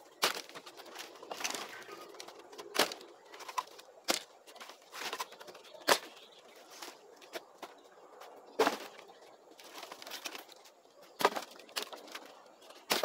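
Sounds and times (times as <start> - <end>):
dry branches rustling: 0.0 - 13.0.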